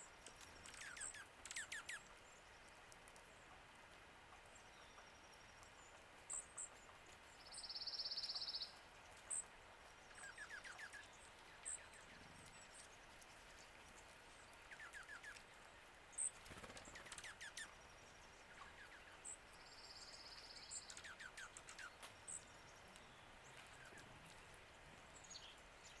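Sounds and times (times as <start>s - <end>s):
small birds chipping: 0.0s - 26.0s.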